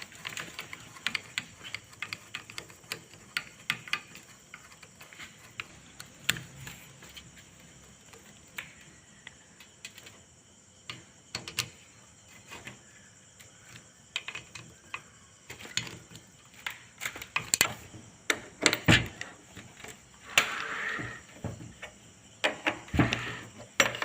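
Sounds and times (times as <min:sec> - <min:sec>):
metal parts clicking and tapping: 0:00.0 - 0:10.2, 0:10.8 - 0:12.8, 0:13.4 - 0:20.6, 0:21.4 - 0:24.0.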